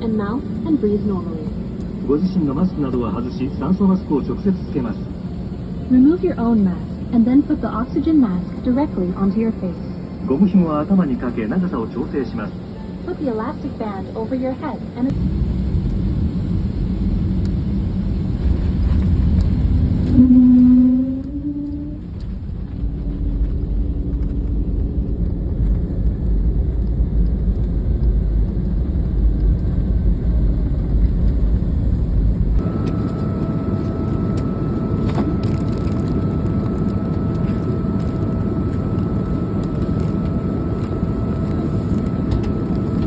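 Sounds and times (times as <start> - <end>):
airliner cabin engine and air noise: 0.0 - 43.0
deep rumble: 0.0 - 43.0
steady high whine: 0.0 - 43.0.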